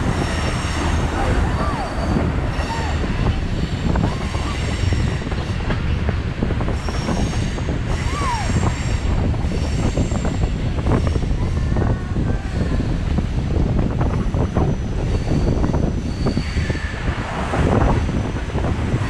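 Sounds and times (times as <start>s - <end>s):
train wheels squealing: 0.0s - 6.0s, 6.6s - 13.0s, 14.0s - 18.3s
train rumbling and rattling: 0.0s - 19.0s.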